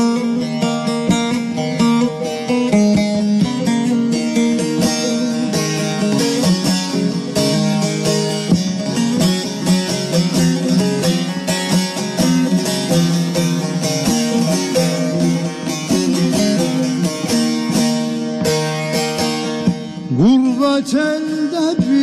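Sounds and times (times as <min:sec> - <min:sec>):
plucked string instruments: 0:00.0 - 0:22.0.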